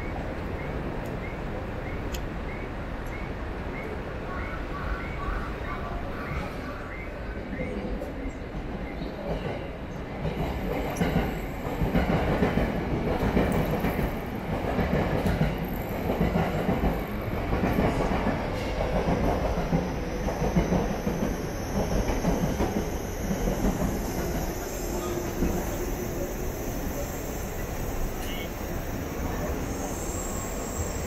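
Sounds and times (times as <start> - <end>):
train running on rails: 0.0 - 31.0.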